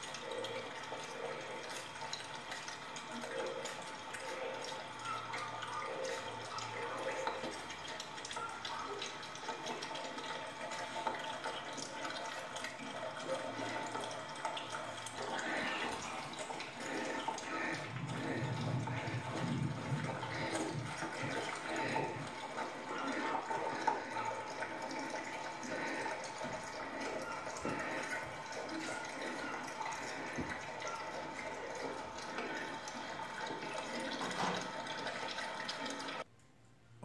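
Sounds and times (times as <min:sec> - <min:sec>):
puppies lapping and slurping: 0:00.0 - 0:36.3.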